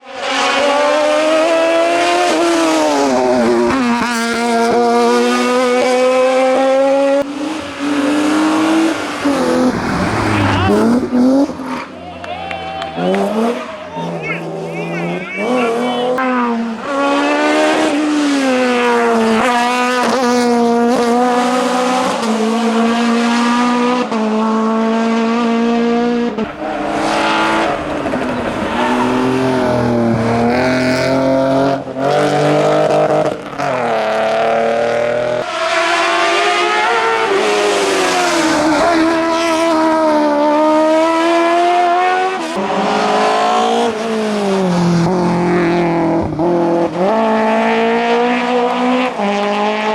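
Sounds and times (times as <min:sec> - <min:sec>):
race car engines at full throttle: 0:00.0 - 0:49.9.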